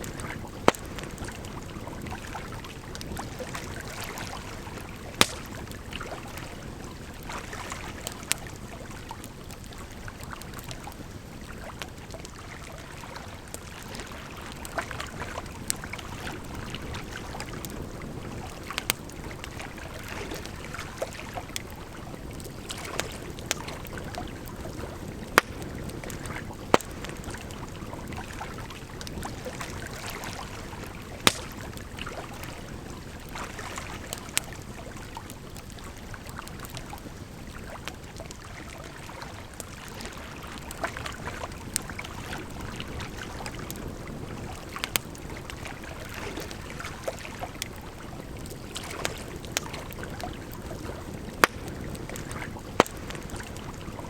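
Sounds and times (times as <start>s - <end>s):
campfire crackling and popping: 0.0s - 54.0s
flowing water: 0.0s - 54.0s.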